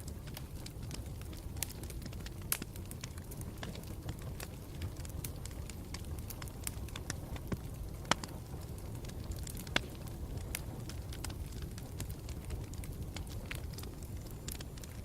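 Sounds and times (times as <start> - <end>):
burning wood popping and snapping: 0.0 - 15.0
campfire crackling: 0.0 - 15.0.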